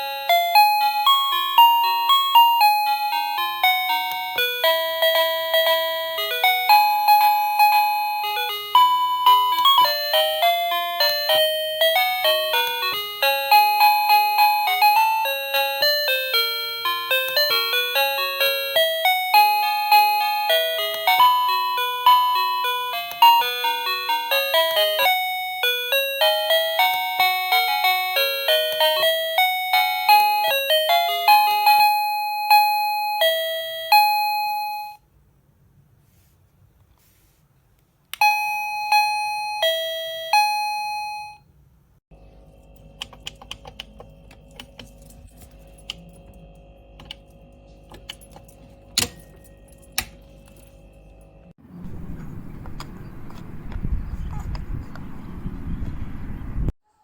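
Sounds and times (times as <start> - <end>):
doorbell electronic melody: 0.0 - 35.0, 38.2 - 41.4, 42.2 - 51.5.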